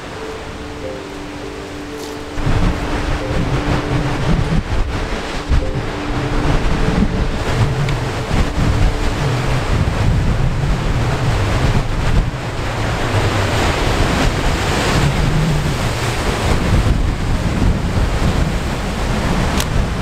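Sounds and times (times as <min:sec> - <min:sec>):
ocean surf breaking on rocks: 0:00.0 - 0:20.0
wind buffeting microphone: 0:00.0 - 0:20.0.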